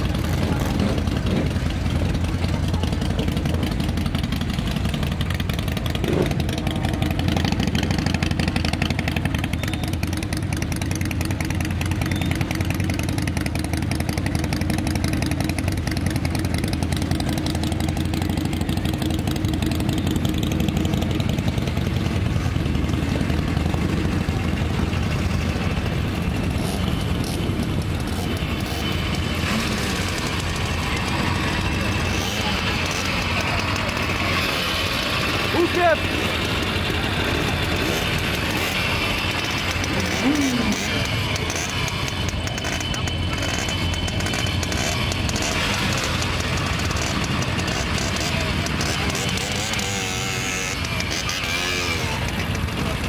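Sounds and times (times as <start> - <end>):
motorcycle engines idling: 0.0 - 53.0.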